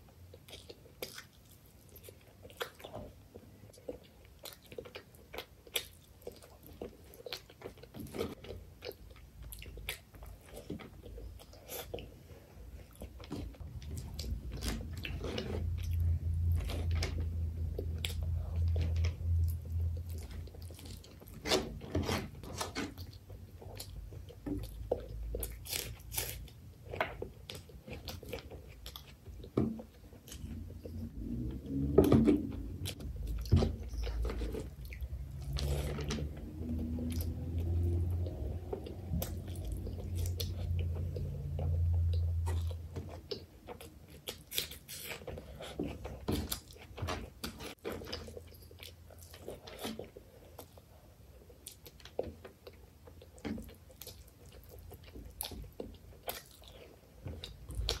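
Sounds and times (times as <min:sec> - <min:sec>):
close chewing with wet mouth clicks: 0:00.0 - 0:21.5, 0:22.5 - 0:31.1, 0:32.8 - 0:58.0.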